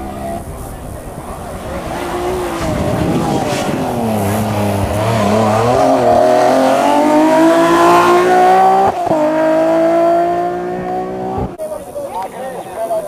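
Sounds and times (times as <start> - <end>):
race car engine accelerating: 0.0 - 11.6.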